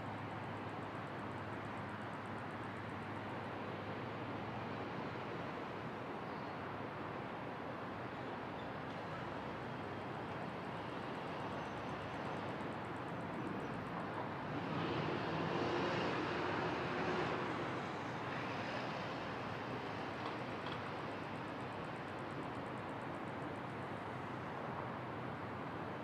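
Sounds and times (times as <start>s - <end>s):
distant traffic: 0.0s - 26.0s.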